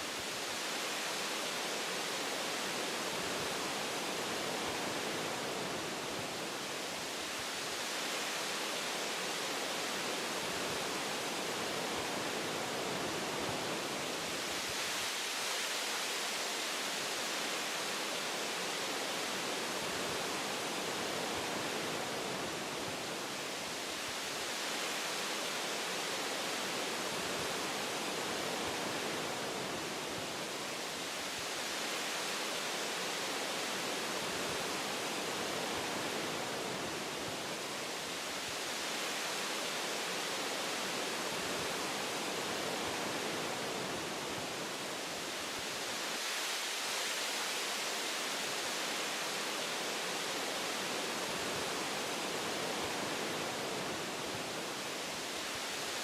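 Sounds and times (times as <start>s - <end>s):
wind through tree branches: 0.0s - 56.0s.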